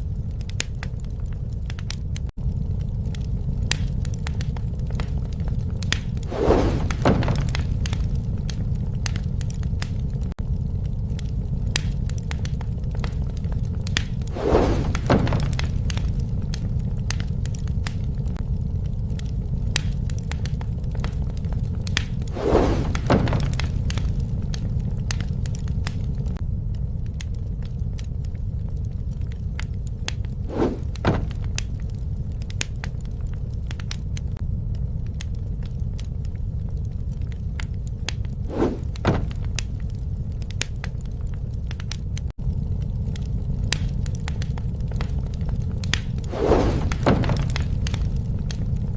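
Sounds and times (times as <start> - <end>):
campfire crackling and popping: 0.0 - 48.9
campfire low rumble: 0.0 - 48.9.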